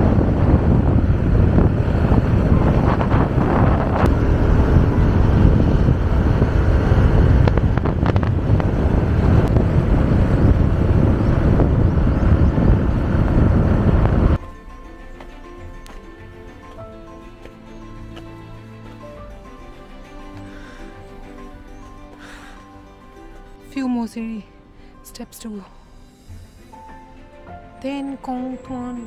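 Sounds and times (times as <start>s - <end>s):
motorcycle engine rumble: 0.0s - 23.6s
wind buffeting microphone: 0.0s - 23.6s.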